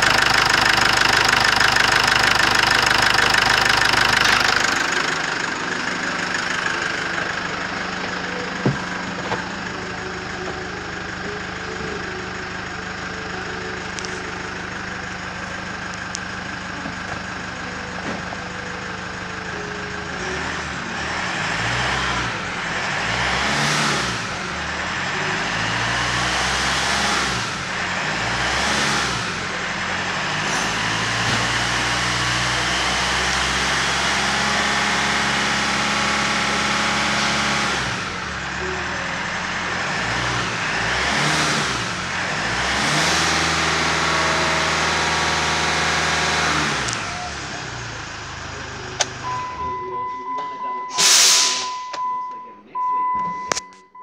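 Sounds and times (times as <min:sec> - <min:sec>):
diesel engine idling and revving: 0:00.0 - 0:54.0.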